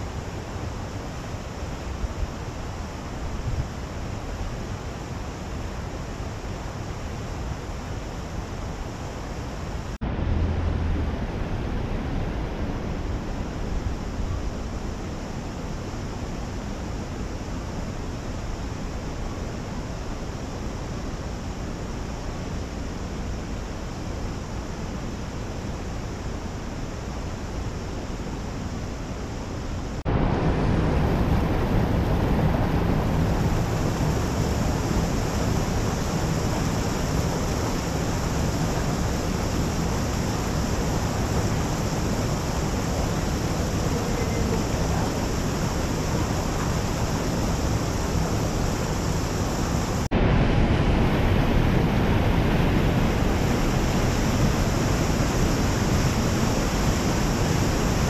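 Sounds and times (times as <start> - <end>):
mountain stream rushing water: 0.0 - 58.0.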